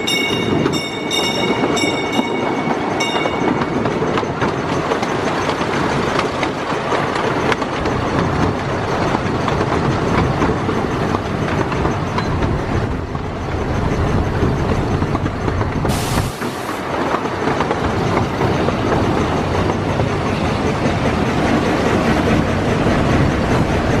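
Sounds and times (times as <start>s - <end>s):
miniature train wheels clattering: 0.0s - 24.0s.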